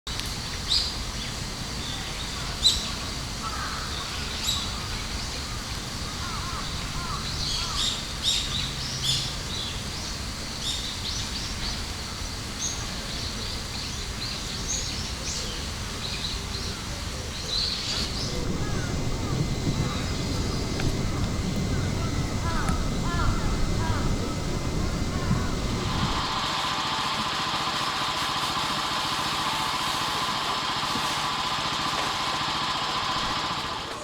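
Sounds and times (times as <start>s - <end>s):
steady background noise: 0.1s - 34.0s
birds chirping: 0.4s - 33.4s.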